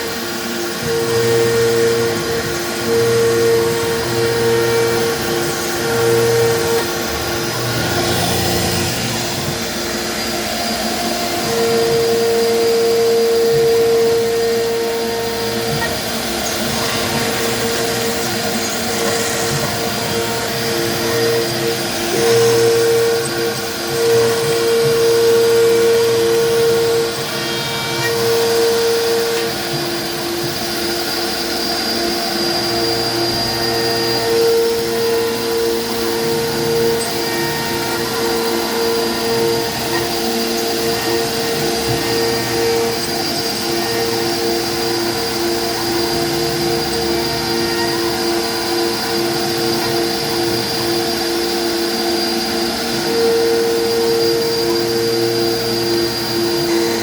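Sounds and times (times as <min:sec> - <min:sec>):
cnc router cutting plastic: 0:00.0 - 0:57.0
humming tone: 0:00.0 - 0:57.0.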